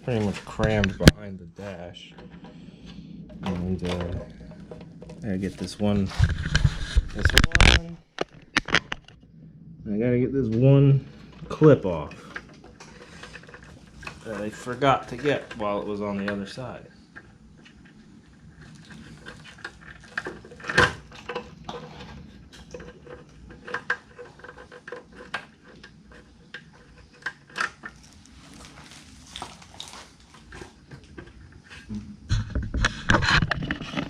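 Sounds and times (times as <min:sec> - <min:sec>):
rustling and dragging of wires: 0:00.0 - 0:34.0.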